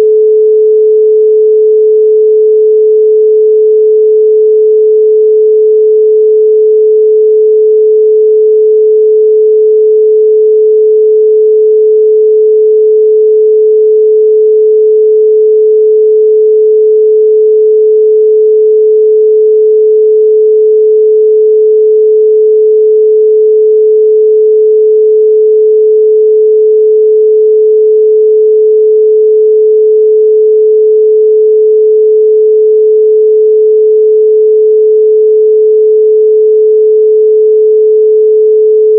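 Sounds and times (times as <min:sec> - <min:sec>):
steady pure sine tone: 0:00.0 - 0:38.9.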